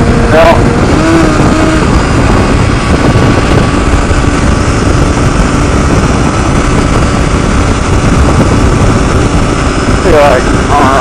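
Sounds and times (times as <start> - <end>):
motorcycle engine running: 0.0 - 11.0
wind rush over helmet: 0.0 - 11.0.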